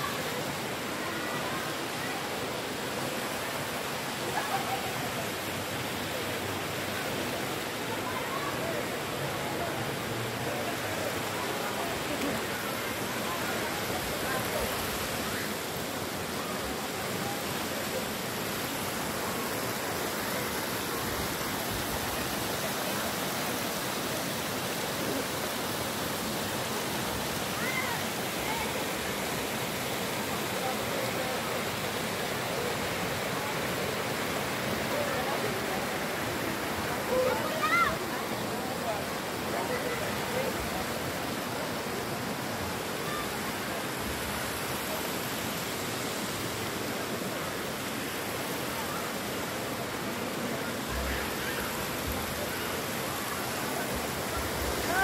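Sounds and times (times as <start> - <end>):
water cascading into pool: 0.0 - 55.0.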